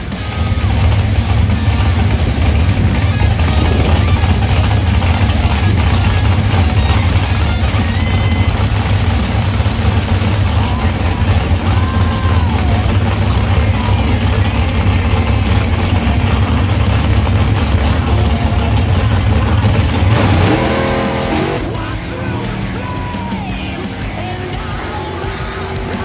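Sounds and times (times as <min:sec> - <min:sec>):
drag car engine rumbling: 0:00.0 - 0:26.0.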